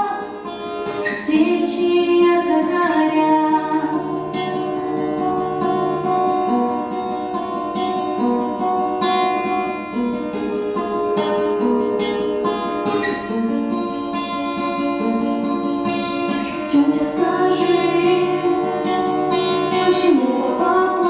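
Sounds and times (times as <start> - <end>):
acoustic guitar picked chords: 0.0 - 21.0.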